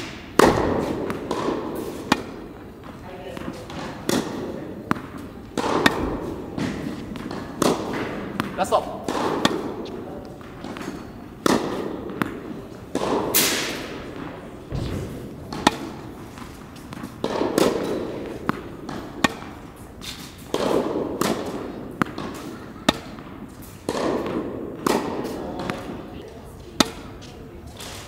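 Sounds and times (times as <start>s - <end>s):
racket striking ball: 0.0s - 28.0s
tennis ball bouncing: 0.0s - 28.0s.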